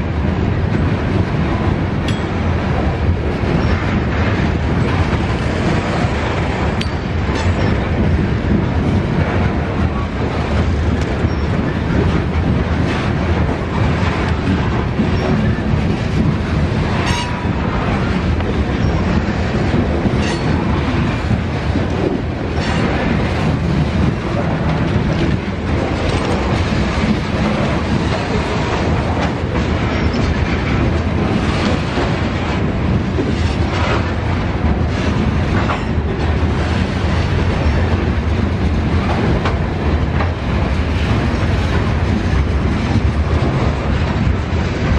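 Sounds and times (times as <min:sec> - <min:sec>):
freight train cars rolling past: 0:00.0 - 0:44.9.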